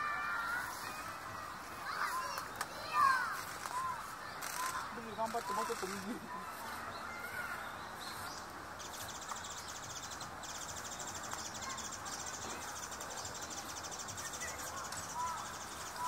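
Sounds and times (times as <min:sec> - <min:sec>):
outdoor ambient noise: 0:00.0 - 0:16.0
faint bird chirps: 0:00.4 - 0:16.0.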